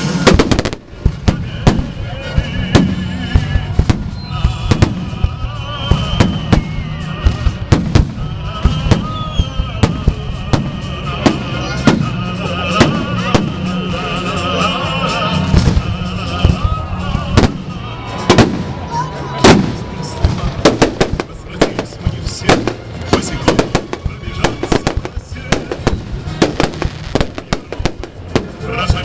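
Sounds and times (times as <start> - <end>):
fireworks bangs: 0.0 - 14.2, 15.4 - 29.0
crowd noise: 0.0 - 29.0
music: 0.0 - 29.0.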